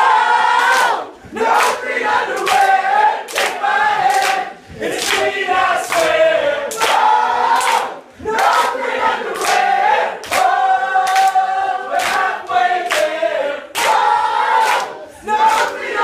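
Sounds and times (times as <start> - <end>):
group of people singing: 0.0 - 16.0.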